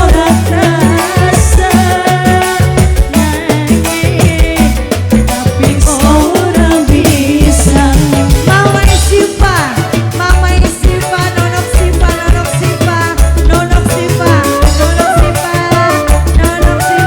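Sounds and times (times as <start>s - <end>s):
dangdut band music: 0.0s - 17.0s
steady drum beat: 0.0s - 17.0s.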